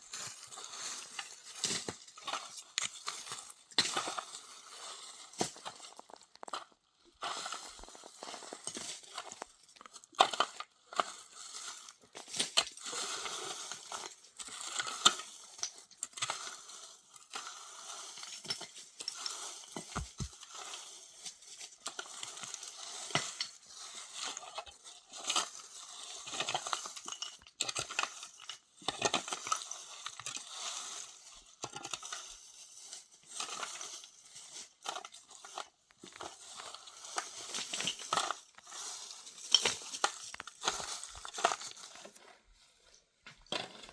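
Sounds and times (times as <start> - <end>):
objects crinkling and clinking: 0.0 - 43.9.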